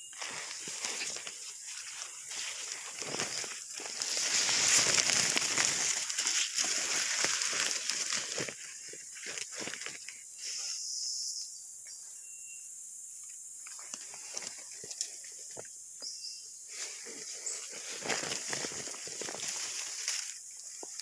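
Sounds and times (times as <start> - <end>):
leaves rustling underfoot: 0.0 - 10.7, 13.6 - 15.7, 16.6 - 21.0
high-pitched insect chorus: 0.0 - 21.0.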